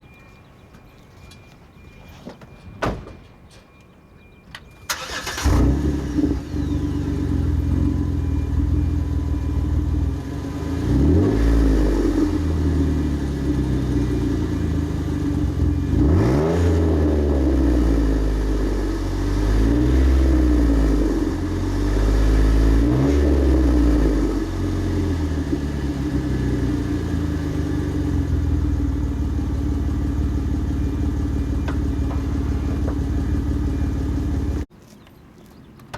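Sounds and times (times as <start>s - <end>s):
car engine starting and idling: 4.2s - 34.7s
engine revving: 4.9s - 34.7s.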